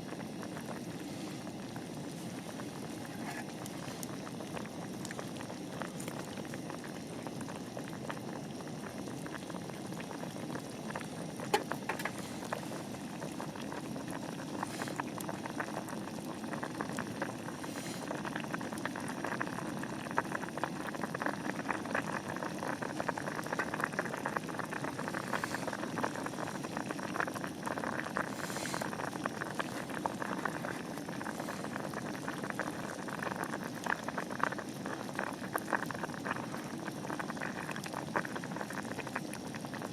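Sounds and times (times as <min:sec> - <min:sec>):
pot of liquid boiling: 0:00.0 - 0:39.9.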